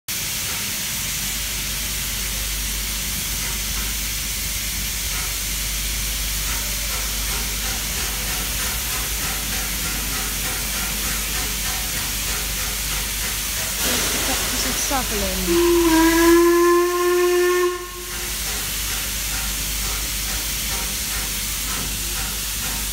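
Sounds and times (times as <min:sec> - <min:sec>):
steam hissing from locomotive: 0:00.1 - 0:22.9.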